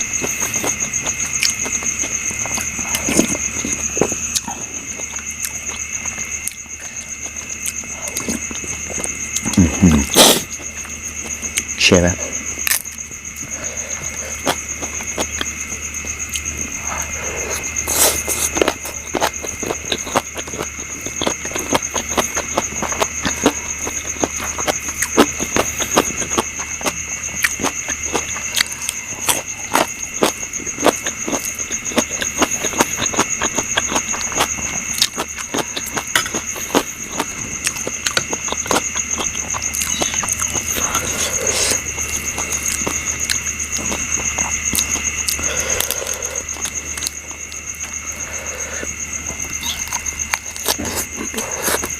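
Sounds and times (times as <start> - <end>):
night insects droning: 0.0 - 51.9
person chewing: 0.0 - 51.9.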